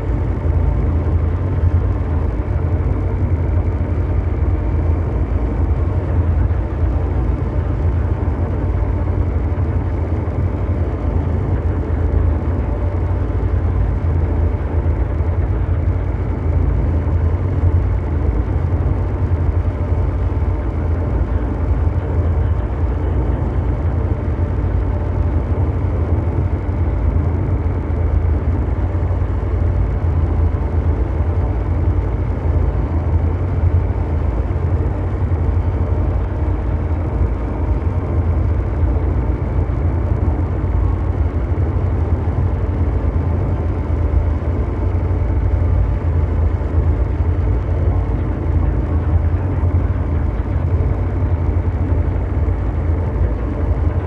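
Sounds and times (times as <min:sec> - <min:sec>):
deep mechanical rumble: 0:00.0 - 0:54.0
faint steady hum tones: 0:00.0 - 0:54.0.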